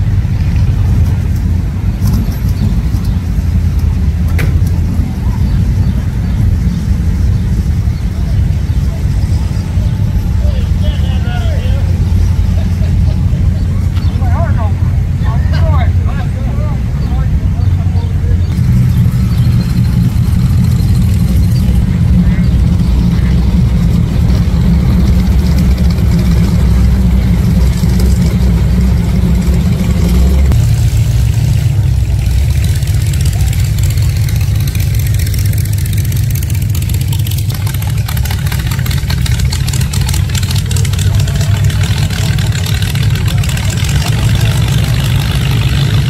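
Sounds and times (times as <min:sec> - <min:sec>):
car engines rolling past: 0:00.0 - 0:46.0.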